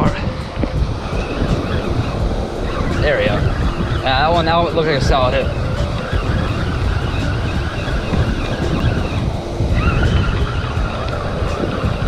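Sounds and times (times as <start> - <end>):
surf: 0.0 - 12.0
wind buffeting microphone: 0.0 - 12.0.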